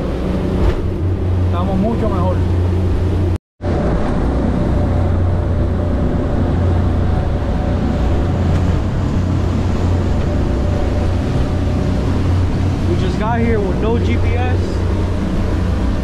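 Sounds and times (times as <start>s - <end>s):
outboard engines droning: 0.0s - 16.0s
wind and water rushing: 0.0s - 16.0s.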